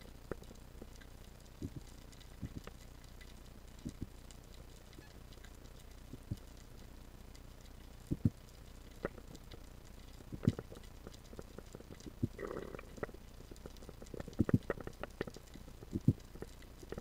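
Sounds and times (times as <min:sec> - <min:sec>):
sharp underwater clicks and knocks: 0:00.2 - 0:06.7, 0:08.0 - 0:17.0.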